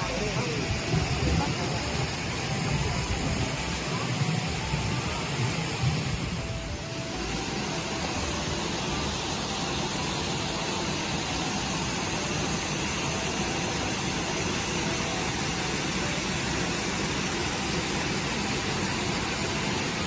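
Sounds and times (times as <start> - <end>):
waterfall rushing: 0.0 - 19.7.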